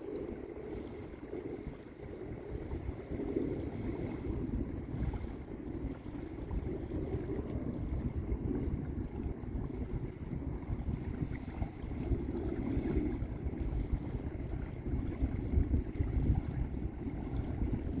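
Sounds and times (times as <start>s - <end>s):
small waves washing onto beach: 0.0s - 18.0s
wind rumble on microphone: 0.0s - 18.0s.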